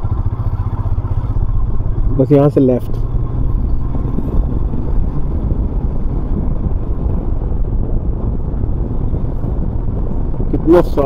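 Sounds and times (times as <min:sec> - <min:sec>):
motorcycle engine running: 0:00.0 - 0:11.0
wind rumbling on microphone: 0:00.0 - 0:11.0.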